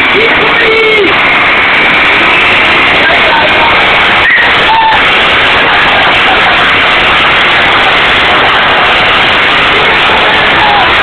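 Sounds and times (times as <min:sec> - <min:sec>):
distorted moped engine roar: 0:00.0 - 0:11.0.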